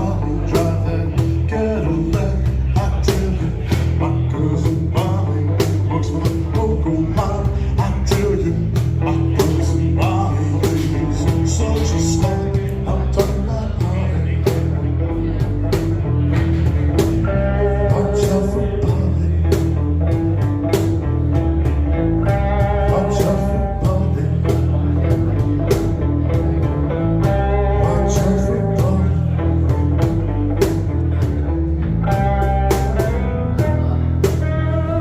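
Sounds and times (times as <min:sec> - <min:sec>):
band playing slow blues: 0:00.0 - 0:35.0
guitar: 0:00.0 - 0:35.0.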